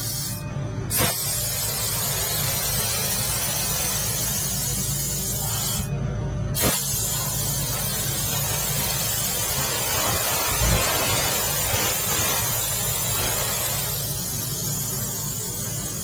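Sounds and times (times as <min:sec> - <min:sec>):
laser cutter gas hiss: 0:00.0 - 0:05.9, 0:06.5 - 0:16.0
low machine hum: 0:00.0 - 0:16.0.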